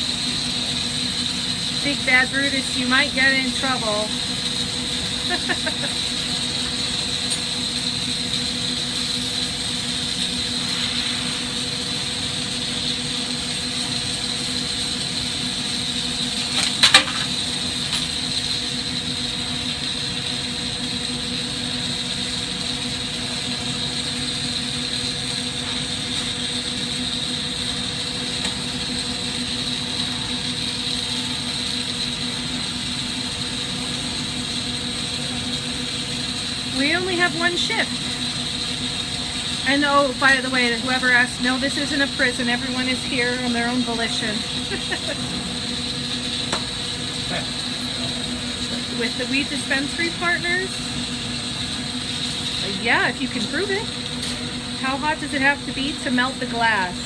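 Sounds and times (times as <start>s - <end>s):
constant hum: 0.0s - 57.0s
torches and exhaust hood rushing: 0.0s - 57.0s.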